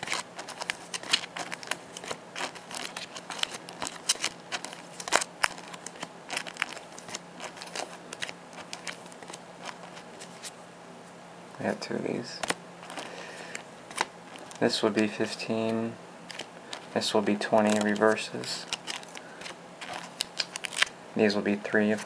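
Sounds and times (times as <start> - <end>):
plastic card sleeves clicking: 0.0 - 10.5, 12.4 - 20.9.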